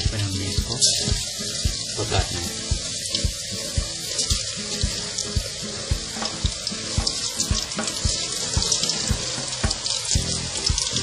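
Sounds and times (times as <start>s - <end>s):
background music with low beat: 0.0s - 11.0s
chicken deep-frying sizzling: 0.0s - 11.0s.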